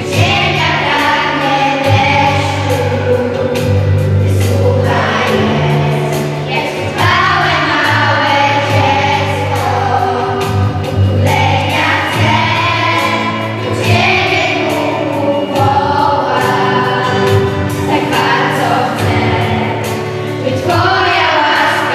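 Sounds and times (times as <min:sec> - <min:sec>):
children's choir singing: 0:00.0 - 0:21.9
guitar accompaniment: 0:00.0 - 0:21.9.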